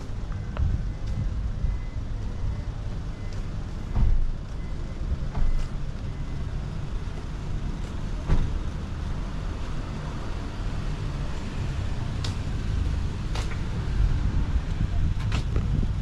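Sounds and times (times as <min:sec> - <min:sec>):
car rumbling on road: 0:00.0 - 0:16.0.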